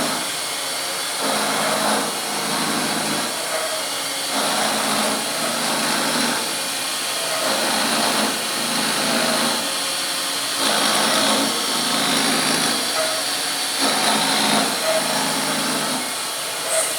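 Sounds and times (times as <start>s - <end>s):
milling machine cutting metal: 0.0s - 16.9s.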